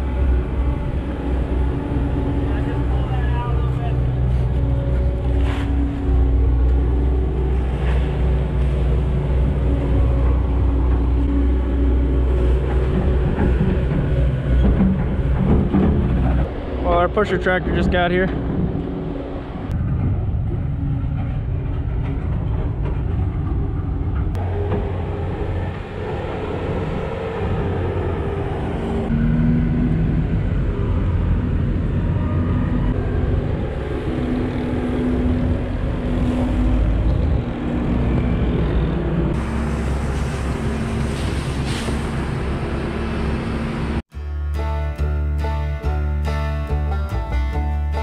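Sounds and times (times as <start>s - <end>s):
tractor engines running: 0.0s - 44.7s.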